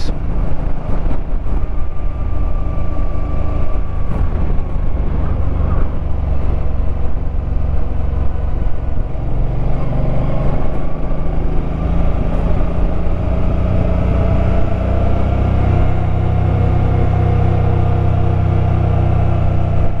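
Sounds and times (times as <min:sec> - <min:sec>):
motorcycle engine running uphill: 0:00.0 - 0:20.0.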